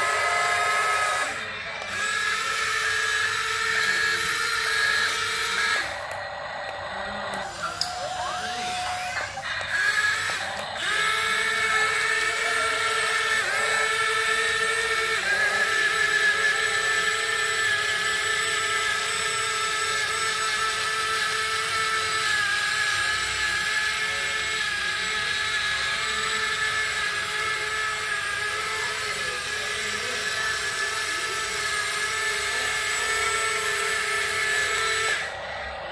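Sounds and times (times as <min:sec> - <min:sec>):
toy excavator motors whining: 0:00.0 - 0:35.9.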